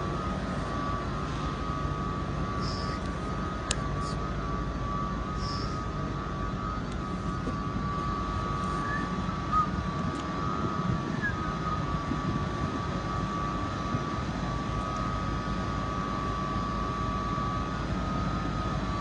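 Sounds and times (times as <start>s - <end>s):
high whine: 0.0s - 19.0s
train engines low rumble: 0.0s - 19.0s.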